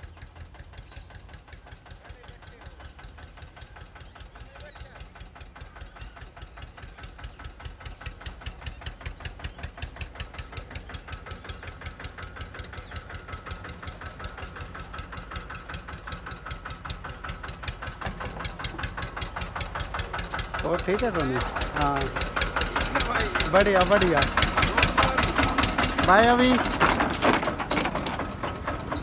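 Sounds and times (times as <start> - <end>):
tractor diesel engine chugging: 0.0 - 29.0.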